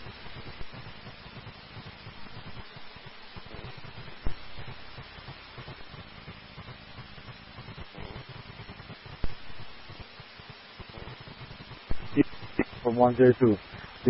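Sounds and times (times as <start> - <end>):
radio static hiss: 0.0 - 14.0
uneven low hum: 0.0 - 14.0.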